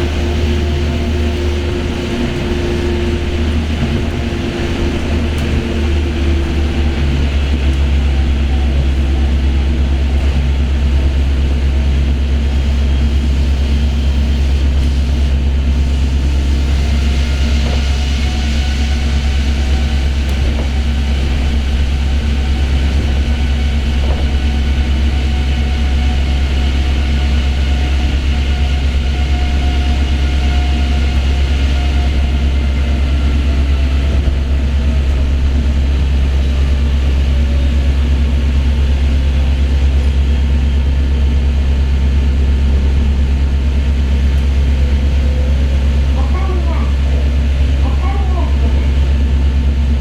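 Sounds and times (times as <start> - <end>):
train tyres rumbling on track: 0.0 - 50.0.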